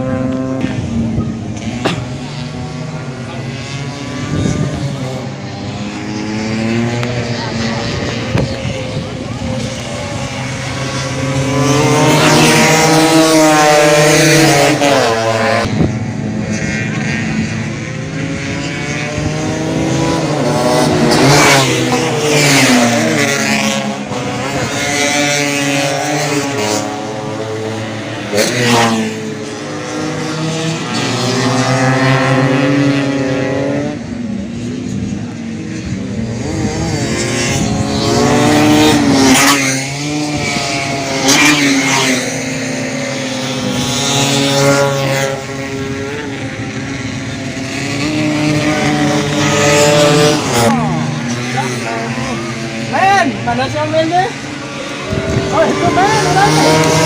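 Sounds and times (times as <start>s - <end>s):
scooter engines revving: 0.0s - 57.0s.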